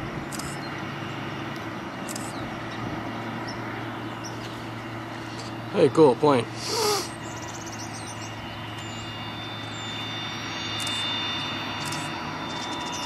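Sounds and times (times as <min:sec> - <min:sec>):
airplane engine whining: 0:00.0 - 0:13.0.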